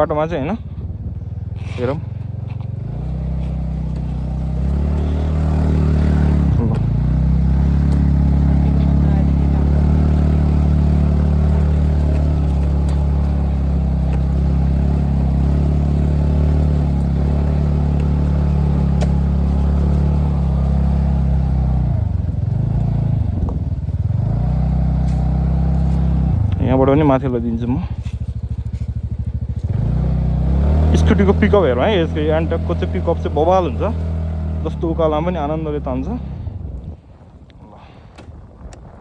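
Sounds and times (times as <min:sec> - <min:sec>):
scooter engine running: 0:00.0 - 0:38.4.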